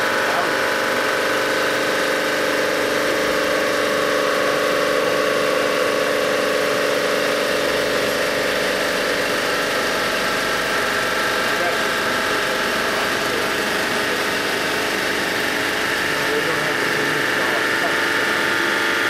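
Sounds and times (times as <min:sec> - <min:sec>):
resurfacing machine whining: 0:00.0 - 0:19.0.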